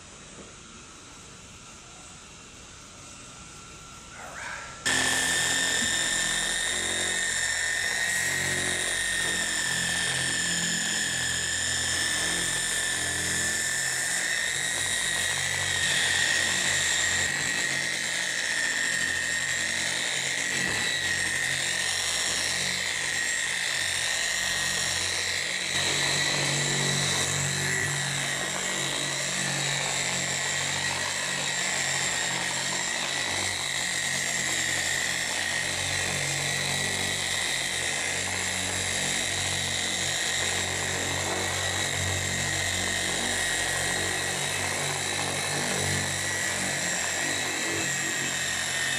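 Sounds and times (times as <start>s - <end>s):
orbital polisher motor whining: 0.0s - 48.9s.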